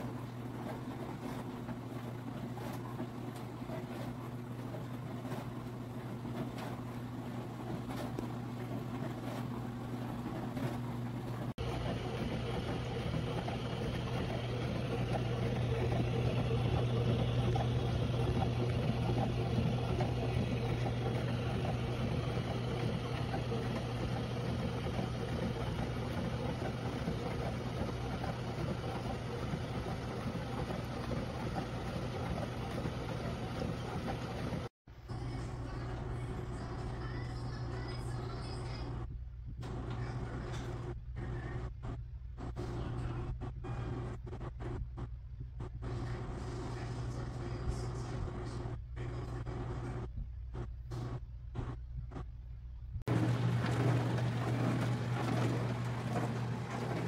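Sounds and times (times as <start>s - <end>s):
dishwasher running: 0.0s - 57.0s.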